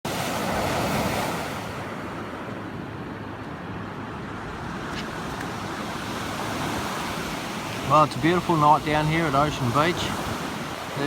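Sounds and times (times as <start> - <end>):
ocean surf washing ashore: 0.0 - 11.0.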